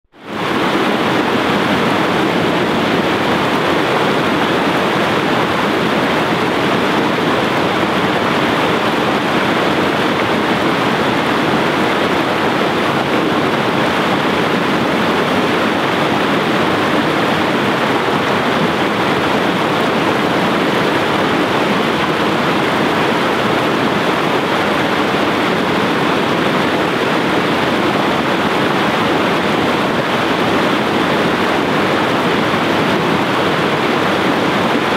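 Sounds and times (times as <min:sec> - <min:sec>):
water rushing over rocks: 0:00.2 - 0:34.9.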